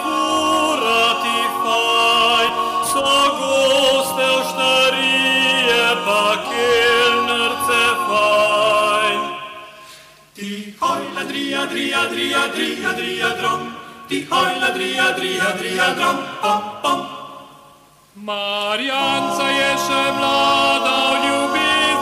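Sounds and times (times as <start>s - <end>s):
a cappella choir singing harmony: 0.0s - 22.0s.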